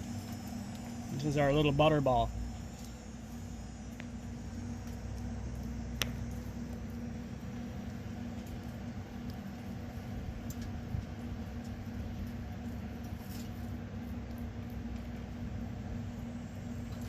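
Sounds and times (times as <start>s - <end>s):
smoker fan humming: 0.0s - 17.0s.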